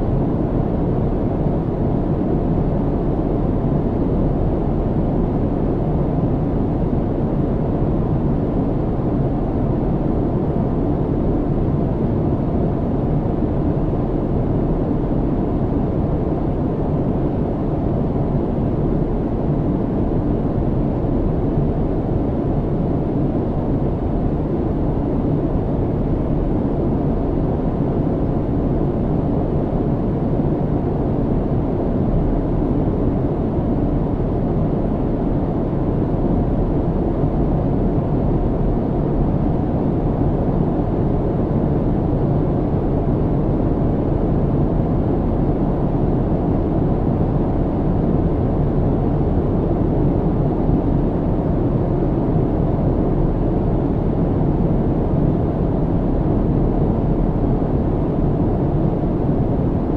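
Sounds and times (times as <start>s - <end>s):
airplane cabin engine rumble: 0.0s - 59.9s
faint constant hum: 0.0s - 59.9s.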